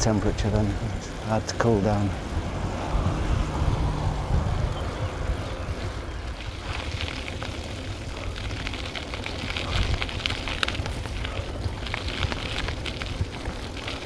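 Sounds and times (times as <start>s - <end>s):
fine crackling ticks: 0.0s - 14.0s
wind rumbling over microphone: 0.0s - 14.0s.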